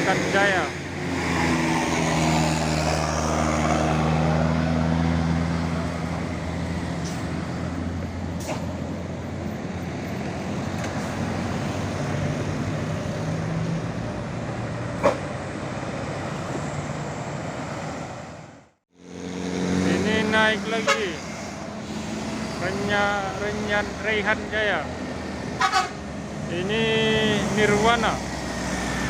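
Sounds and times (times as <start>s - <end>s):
bus diesel engine passing: 0.0s - 29.0s
road noise: 0.0s - 29.0s.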